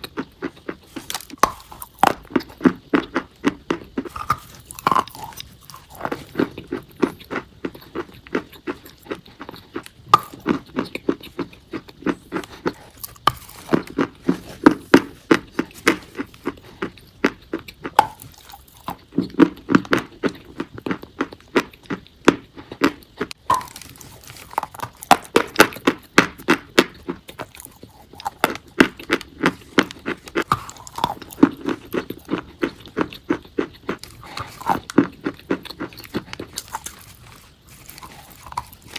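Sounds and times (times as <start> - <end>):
chalk crunching while chewed: 0.0 - 38.9.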